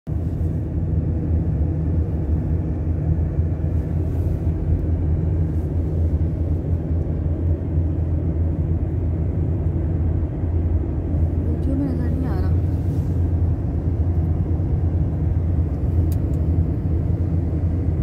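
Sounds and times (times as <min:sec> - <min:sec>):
car cabin road and engine rumble: 0:00.1 - 0:18.0.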